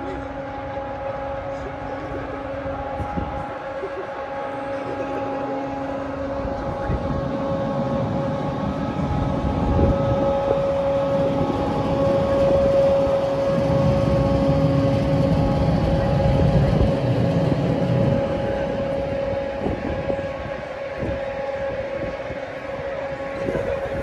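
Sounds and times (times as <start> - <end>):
low rumble: 0.0 - 24.0
ship machinery hum: 0.0 - 24.0.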